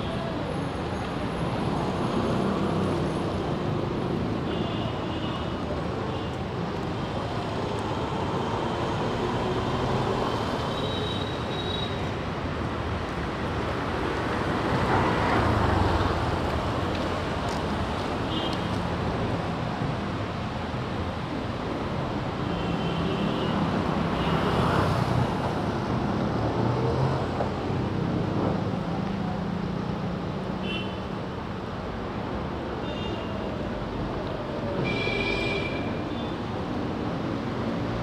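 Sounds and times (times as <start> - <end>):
road traffic on wet road: 0.0 - 38.0.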